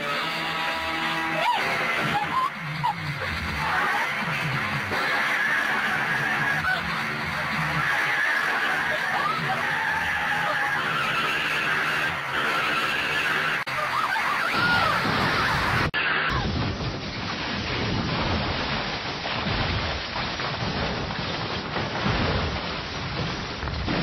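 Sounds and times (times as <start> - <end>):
steady rushing noise: 0.0 - 24.0
vehicle crashing down rocky slope: 0.0 - 24.0.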